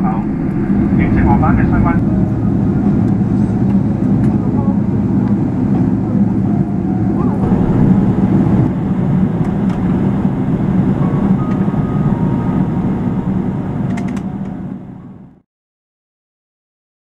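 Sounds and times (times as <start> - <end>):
airliner cabin rumble: 0.0 - 15.4.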